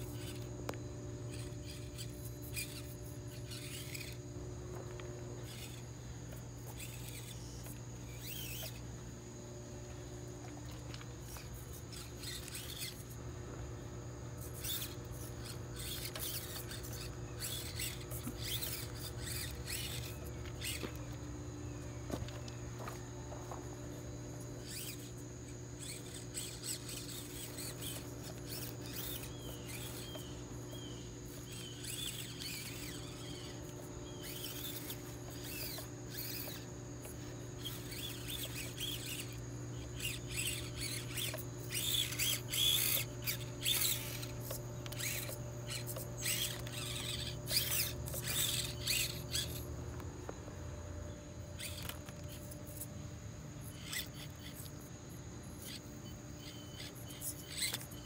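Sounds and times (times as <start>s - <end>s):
small electric motor whining: 0.0s - 58.0s.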